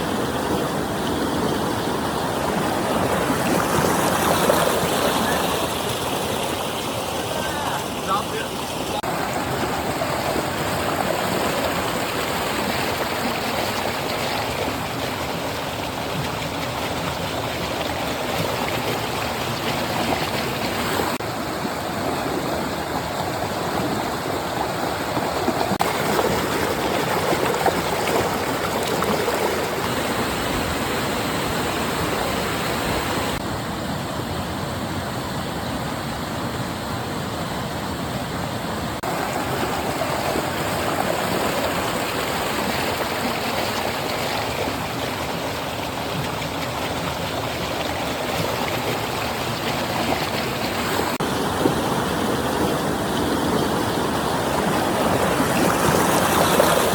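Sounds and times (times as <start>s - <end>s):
water flowing in a stream: 0.0s - 56.9s.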